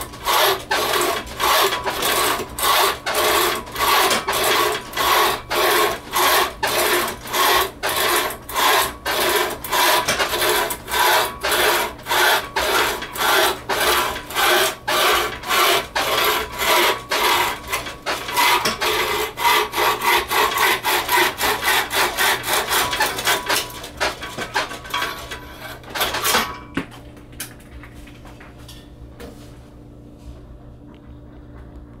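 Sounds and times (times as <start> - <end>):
saw rasping through branch: 0.0 - 26.4.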